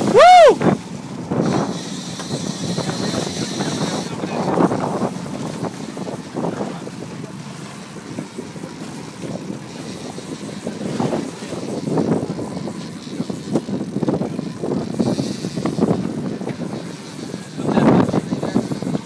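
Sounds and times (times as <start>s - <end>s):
motorboat engine running: 0.0s - 19.0s
wind on microphone: 0.0s - 19.0s.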